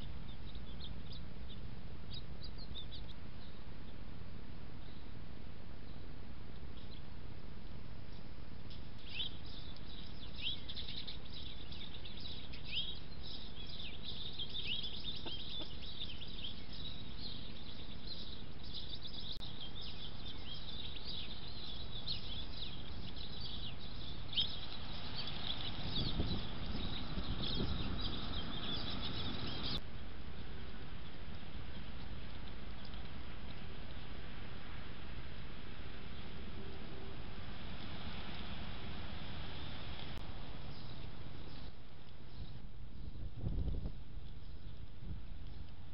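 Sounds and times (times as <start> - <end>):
birds chirping: 0.0 - 4.0, 8.0 - 45.8
background hiss: 0.0 - 45.9.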